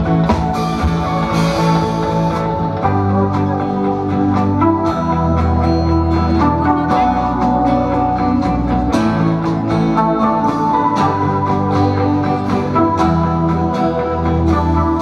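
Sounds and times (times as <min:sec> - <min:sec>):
acoustic guitar: 0:00.0 - 0:15.0
electric bass: 0:00.0 - 0:15.0
keyboard chords: 0:00.0 - 0:15.0.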